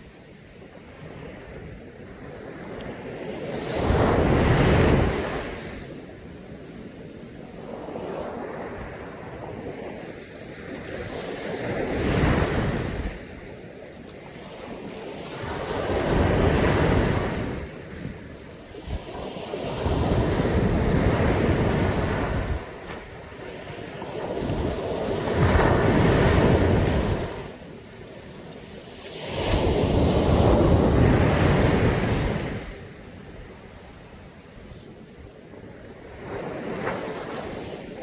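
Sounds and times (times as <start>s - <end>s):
waves breaking on a beach: 0.0s - 38.0s.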